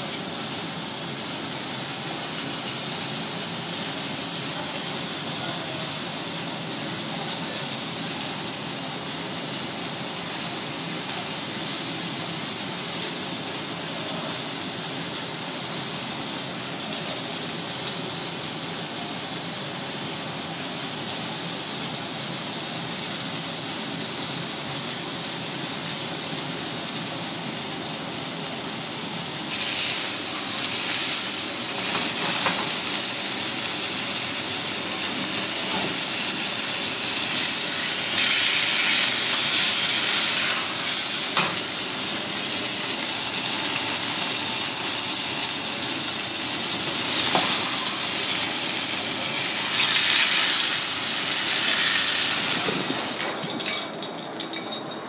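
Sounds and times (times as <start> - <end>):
fish sizzling in pan: 0.0 - 55.0
steady kitchen hiss: 0.0 - 55.0.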